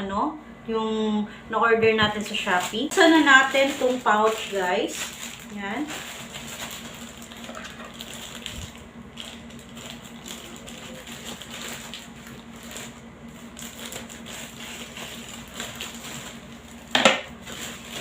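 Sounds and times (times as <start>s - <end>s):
plastic pouch and bubble wrap crinkling: 2.0s - 18.0s.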